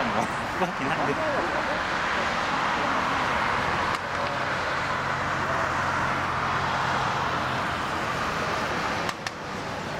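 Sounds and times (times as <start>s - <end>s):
jet roar at takeoff: 0.0s - 9.9s.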